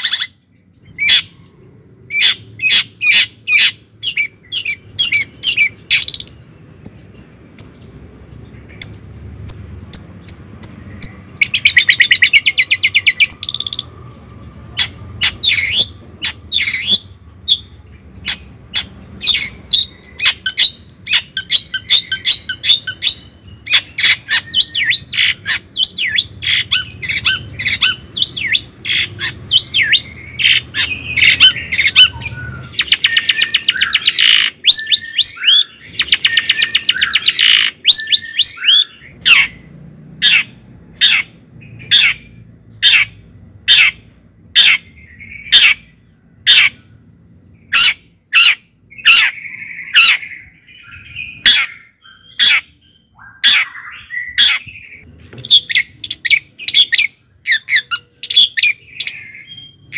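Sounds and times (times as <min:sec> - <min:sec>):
bird chirping: 0:00.0 - 0:59.9
bird trill: 0:00.0 - 0:59.9.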